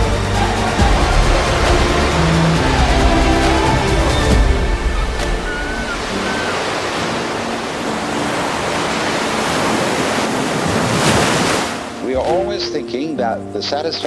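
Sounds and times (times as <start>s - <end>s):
rushing water: 0.0s - 12.7s
soft background music: 0.0s - 14.0s.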